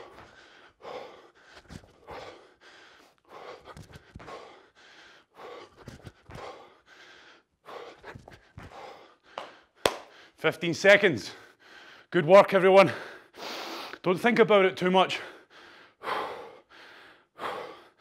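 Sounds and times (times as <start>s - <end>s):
man breathing hard: 0.0s - 10.4s, 11.3s - 12.1s, 12.8s - 14.0s, 15.2s - 18.0s.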